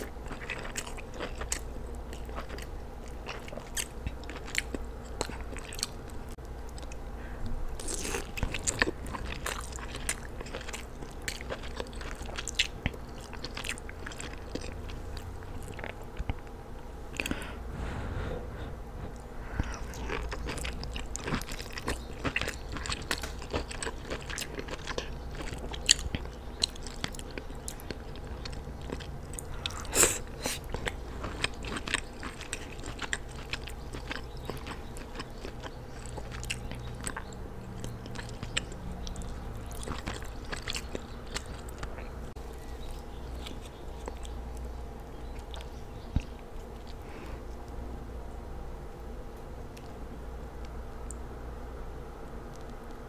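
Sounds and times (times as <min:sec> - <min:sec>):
close chewing with wet mouth clicks: 0:00.0 - 0:07.0, 0:07.8 - 0:16.5, 0:19.1 - 0:47.8.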